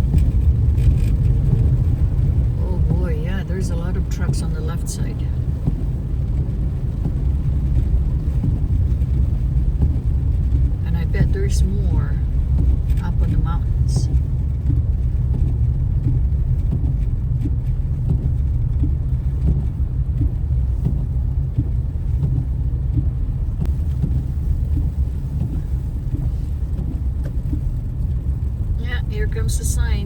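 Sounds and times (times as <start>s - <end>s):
car road rumble from inside: 0.0s - 30.0s.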